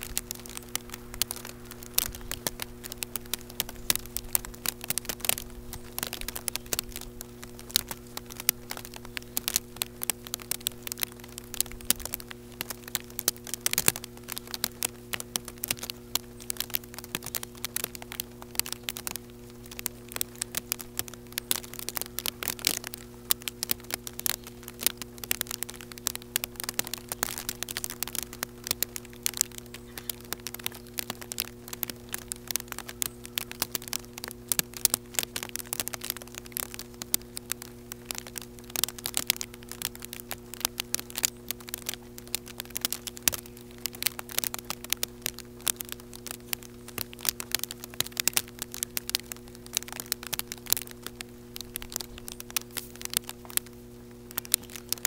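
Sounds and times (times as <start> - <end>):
low electrical hum: 0.0 - 55.0
raindrops striking microphone: 0.0 - 55.0.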